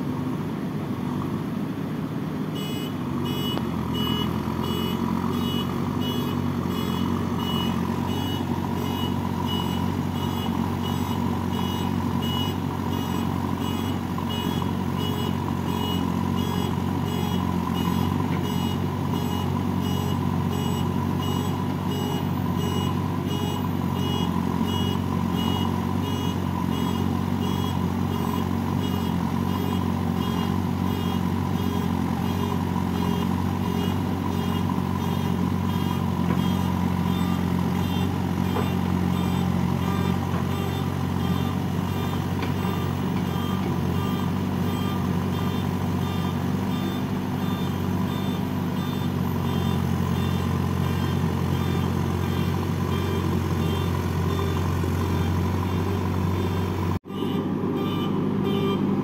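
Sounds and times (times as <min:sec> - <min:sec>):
diesel engine running: 0:00.0 - 0:59.0
reversing alarm beeping: 0:02.6 - 0:59.0.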